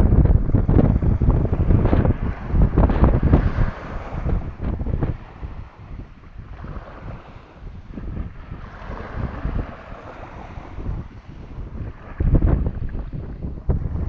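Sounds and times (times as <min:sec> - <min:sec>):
sea waves washing: 0:00.0 - 0:14.0
wind buffeting microphone: 0:00.0 - 0:14.0.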